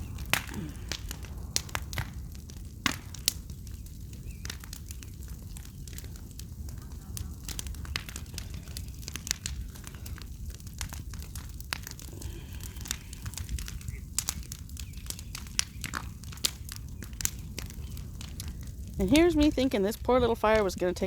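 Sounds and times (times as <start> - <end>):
bonfire crackling and popping: 0.0 - 21.0
fire low rumble: 0.0 - 21.0.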